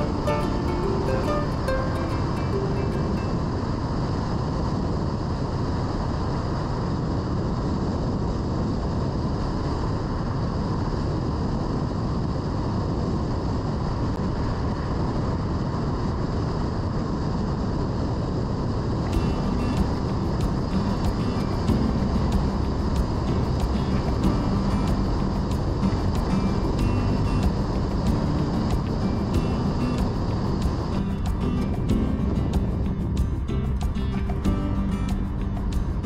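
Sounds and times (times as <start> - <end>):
wind noise: 0.0 - 36.0.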